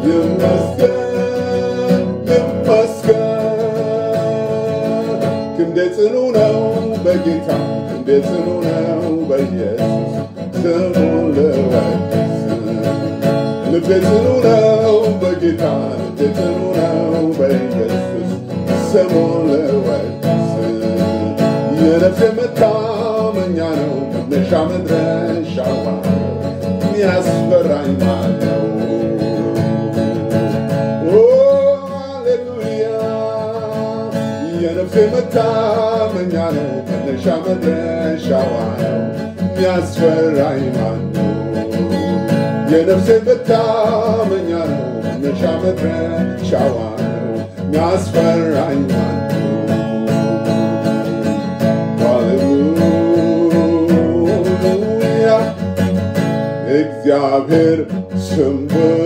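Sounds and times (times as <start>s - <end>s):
man singing: 0.0s - 59.0s
strummed acoustic guitar: 0.0s - 59.0s.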